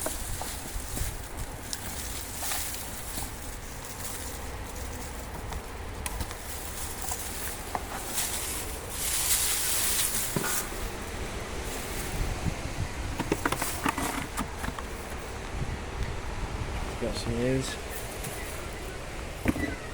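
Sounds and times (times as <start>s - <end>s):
soil and potatoes rustling: 0.0s - 16.0s, 16.6s - 19.9s.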